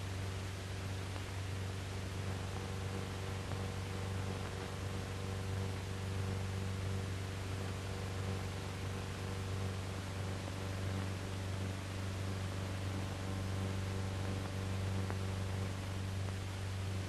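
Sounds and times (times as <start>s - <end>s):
film soundtrack hiss and hum: 0.0s - 17.0s.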